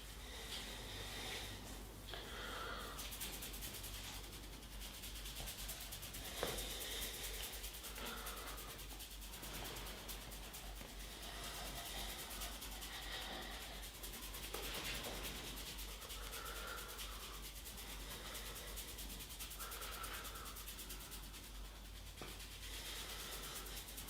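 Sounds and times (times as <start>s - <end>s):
hands rubbing skin and hair: 0.0s - 24.0s.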